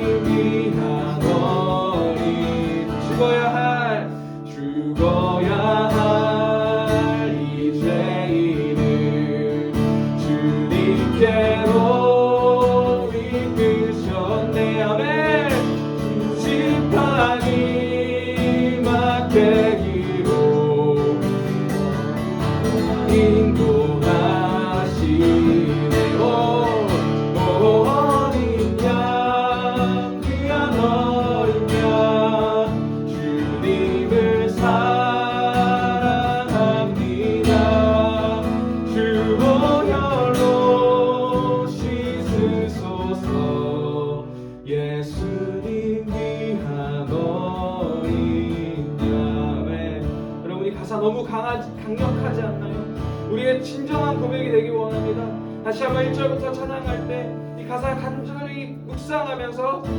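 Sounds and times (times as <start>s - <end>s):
group singing worship song: 0.0s - 50.3s
acoustic guitar: 0.0s - 59.9s.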